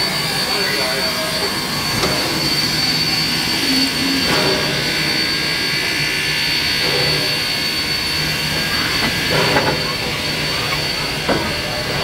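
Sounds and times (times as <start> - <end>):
steam train rolling past: 0.0 - 12.0.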